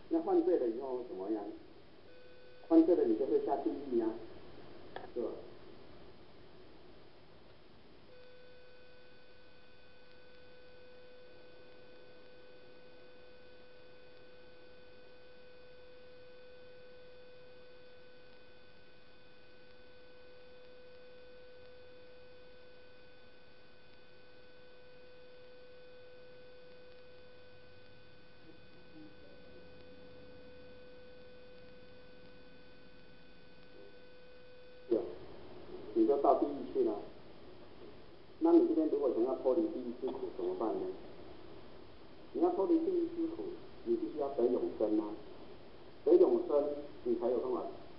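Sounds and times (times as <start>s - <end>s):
electronic hum: 0.0s - 47.9s.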